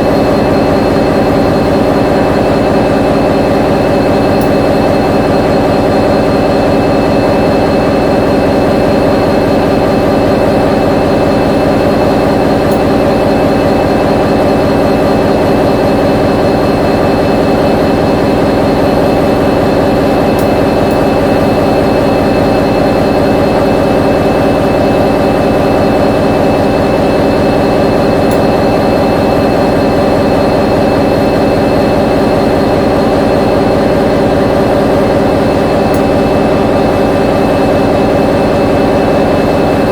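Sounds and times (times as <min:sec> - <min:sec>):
diesel locomotive engine drone: 0:00.0 - 0:39.9
high-pitched whine: 0:00.0 - 0:39.9.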